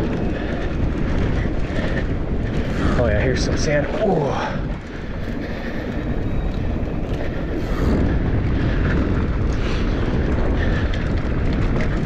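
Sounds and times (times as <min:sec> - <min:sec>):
bike tyres on loose sand: 0:00.0 - 0:12.0
wind buffeting microphone: 0:00.0 - 0:12.0.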